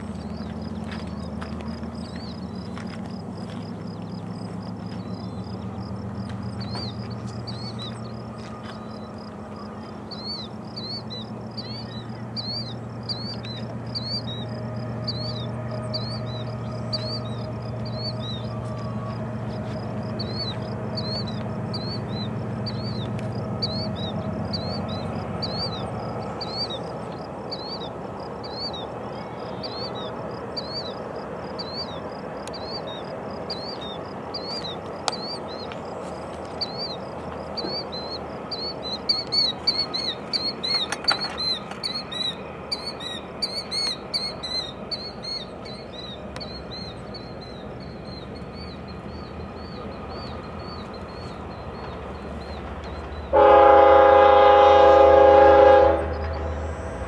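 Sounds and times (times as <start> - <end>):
distant diesel locomotives droning: 0.0 - 57.0
bird chirping: 4.1 - 35.8, 36.5 - 53.4.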